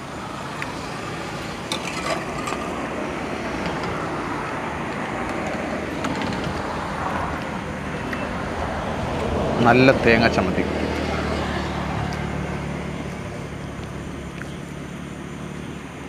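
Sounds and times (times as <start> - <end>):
highway traffic rumble: 0.0 - 16.0.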